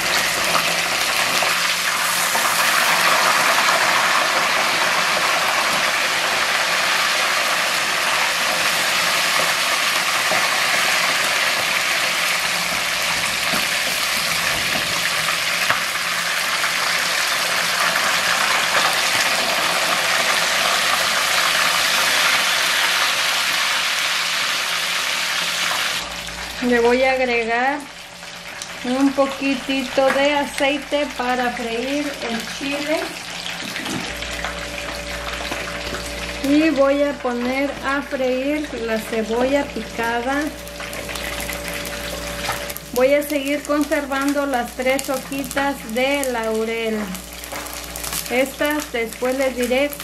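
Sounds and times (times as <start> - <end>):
fish sizzling in hot oil: 0.0 - 36.8, 37.8 - 50.0.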